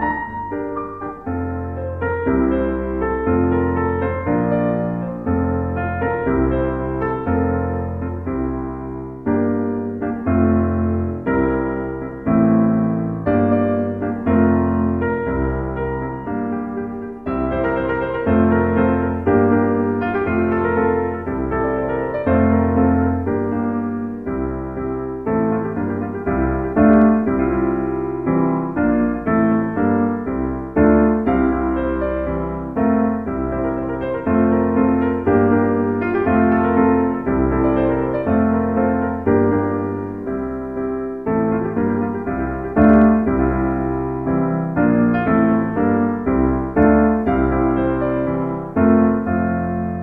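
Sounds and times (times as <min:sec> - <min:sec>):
background piano music: 0:00.0 - 0:50.0.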